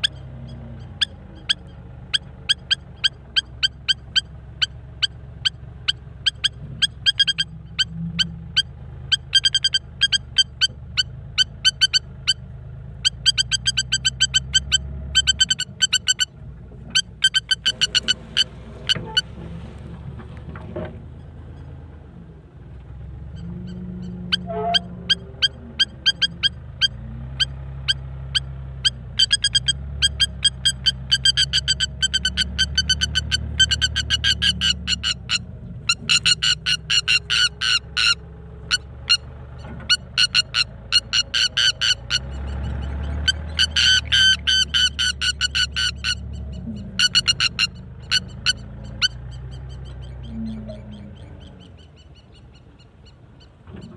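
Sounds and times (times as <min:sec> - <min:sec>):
lapwing alarm calls: 0:00.0 - 0:12.4, 0:13.0 - 0:19.4, 0:23.2 - 0:53.9
tractor engine running: 0:00.0 - 0:53.9.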